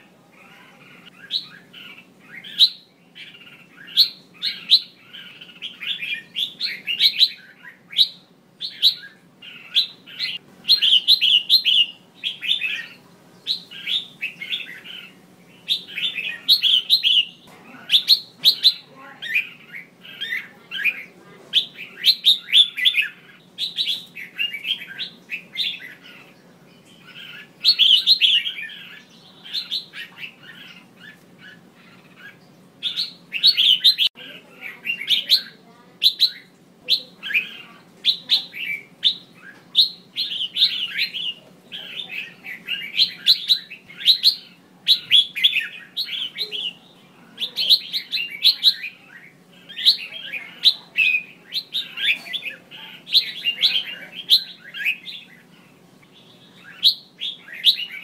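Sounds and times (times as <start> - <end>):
bird chirping calls: 0.0 - 58.0.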